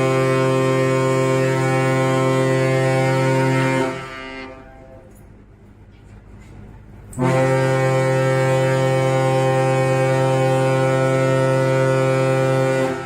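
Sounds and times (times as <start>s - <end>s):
ship's horn blast: 0.0s - 5.2s, 7.0s - 13.0s.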